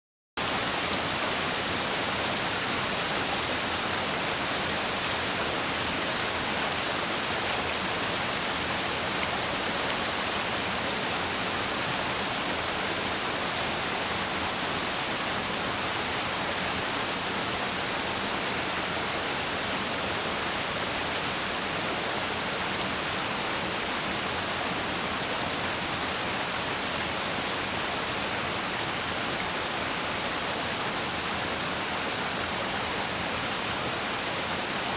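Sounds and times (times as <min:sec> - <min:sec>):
waterfall rushing over rocks: 0:00.4 - 0:34.9.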